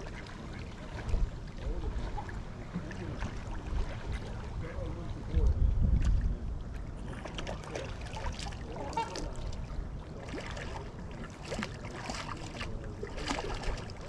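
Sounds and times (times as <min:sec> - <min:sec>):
waterfowl splashing on water: 0:00.0 - 0:05.2, 0:06.7 - 0:14.0.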